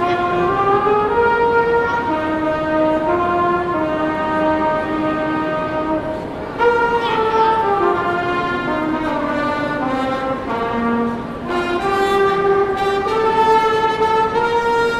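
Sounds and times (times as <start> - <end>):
brass ensemble playing chords: 0.0 - 14.9.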